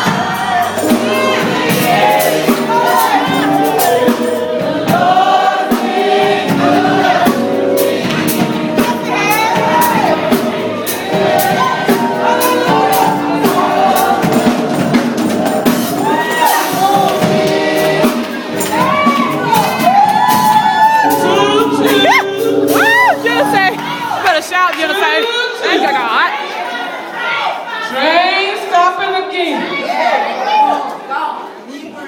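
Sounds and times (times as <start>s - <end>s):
gospel choir singing: 0.0s - 28.2s.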